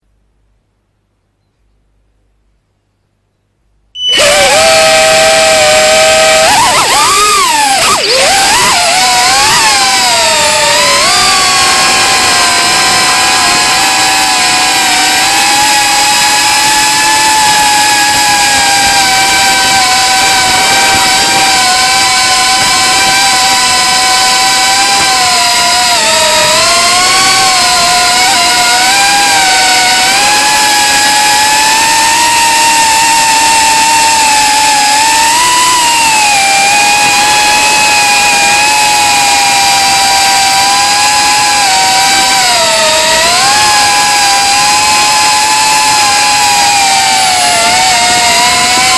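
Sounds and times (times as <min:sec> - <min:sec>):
drone motors whining: 0:04.0 - 0:48.9.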